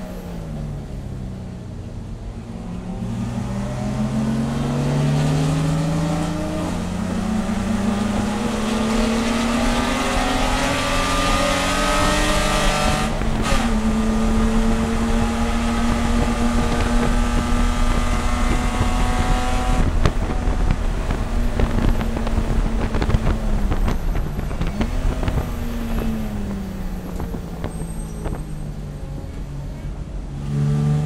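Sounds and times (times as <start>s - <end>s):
race car engine at high revs: 2.2s - 29.5s, 30.1s - 31.0s.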